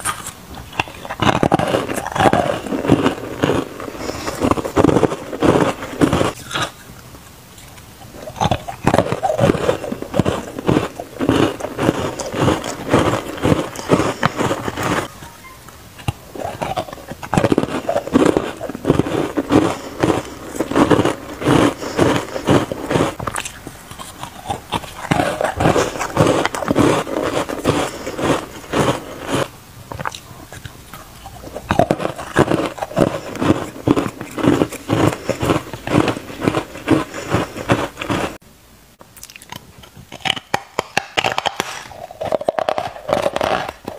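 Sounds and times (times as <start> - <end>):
ice crunching while chewing: 0.0 - 38.4, 39.2 - 43.9.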